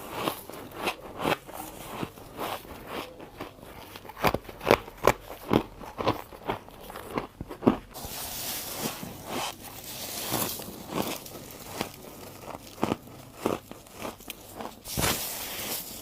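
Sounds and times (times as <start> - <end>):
person crunching frost: 0.0 - 16.0.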